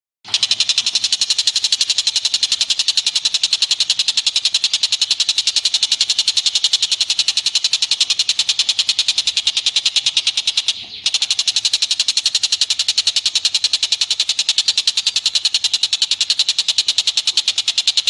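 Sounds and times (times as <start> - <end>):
rapid chatter of high bird notes: 0.3 - 18.0.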